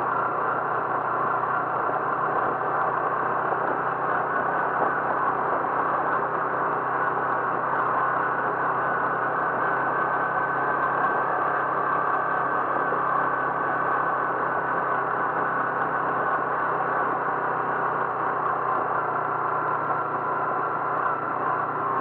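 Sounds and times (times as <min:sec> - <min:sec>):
engine droning steadily: 0:00.0 - 0:22.0.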